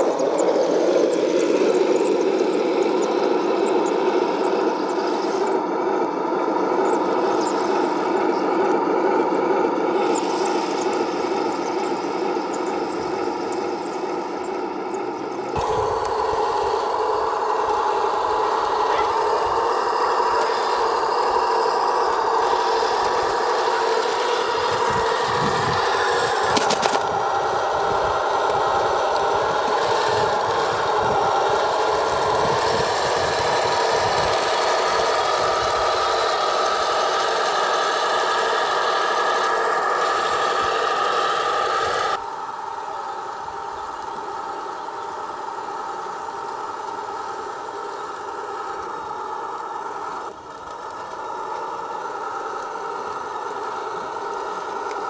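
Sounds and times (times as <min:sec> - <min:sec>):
model tank droning and rattling: 0:00.0 - 0:55.0.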